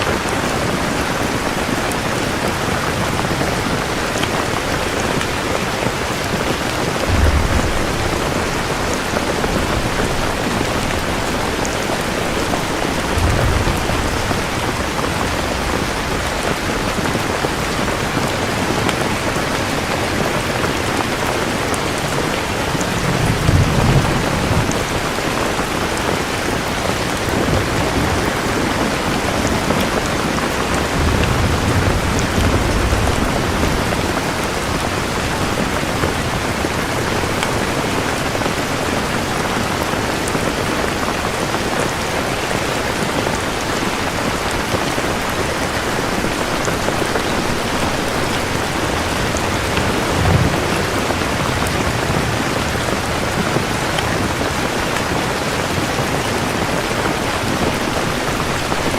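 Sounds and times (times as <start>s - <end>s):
heavy rain falling: 0.0s - 58.9s
thunder rumbling: 0.0s - 58.9s.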